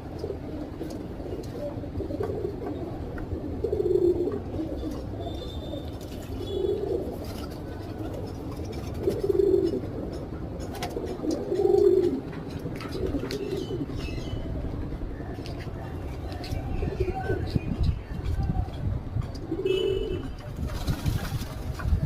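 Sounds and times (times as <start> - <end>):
pigeon cooing: 0.0 - 18.0, 18.6 - 20.4.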